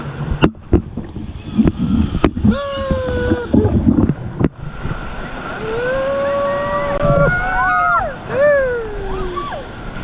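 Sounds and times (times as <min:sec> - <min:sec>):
river water: 0:00.0 - 0:10.0
wind on microphone: 0:00.0 - 0:10.0.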